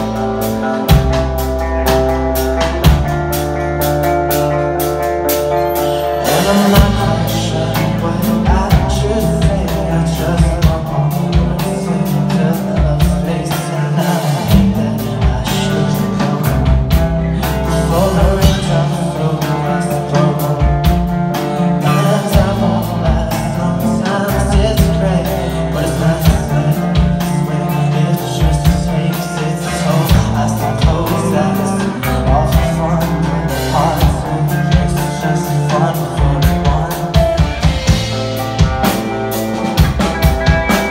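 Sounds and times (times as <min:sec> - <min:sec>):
pop punk band playing live: 0:00.0 - 0:40.9
steady drum beat: 0:00.0 - 0:40.9.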